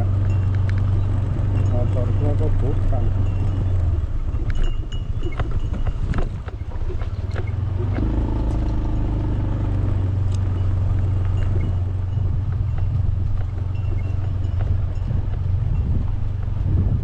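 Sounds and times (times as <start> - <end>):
low rumble: 0.0 - 17.0
motorcycle engine approaching: 0.0 - 17.0.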